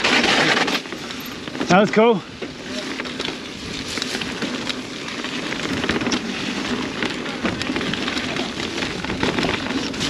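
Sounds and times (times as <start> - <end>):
bike tyres crunching over gravel: 0.0 - 10.0.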